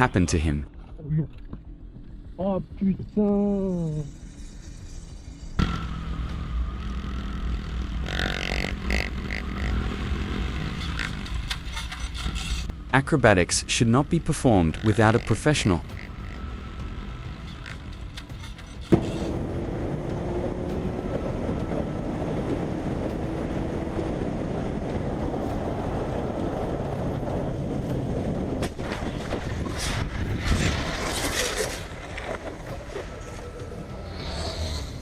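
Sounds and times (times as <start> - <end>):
motorcycle engine and road noise: 0.0 - 35.0.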